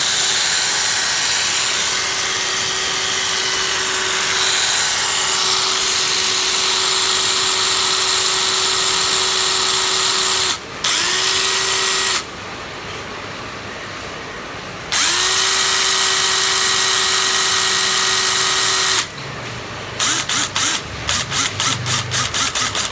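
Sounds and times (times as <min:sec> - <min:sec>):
cordless drill whining: 0:00.0 - 0:12.3, 0:14.9 - 0:19.1, 0:20.0 - 0:22.9.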